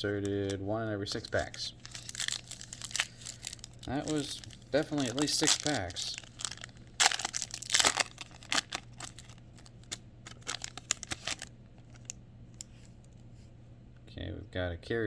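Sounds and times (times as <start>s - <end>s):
wrapper crinkling and tearing: 0.0s - 12.7s
cards rustling: 0.0s - 13.3s.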